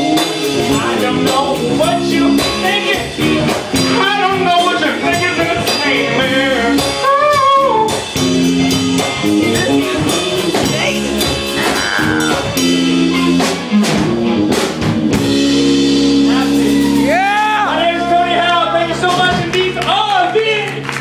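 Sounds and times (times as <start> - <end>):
live band playing funky blues: 0.0 - 21.0.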